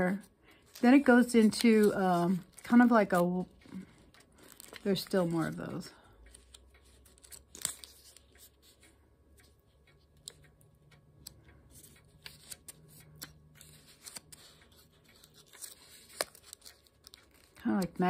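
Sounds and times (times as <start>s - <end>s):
paper pages flipping: 0.5s - 5.6s, 6.3s - 9.5s, 10.2s - 10.4s, 11.2s - 18.0s.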